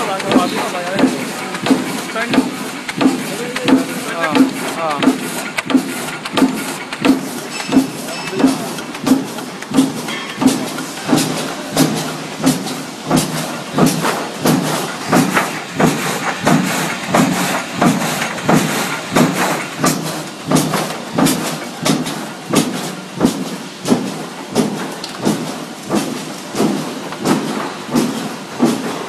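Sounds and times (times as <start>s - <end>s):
machine clacking: 0.0s - 29.0s
machine thumping: 0.0s - 29.0s.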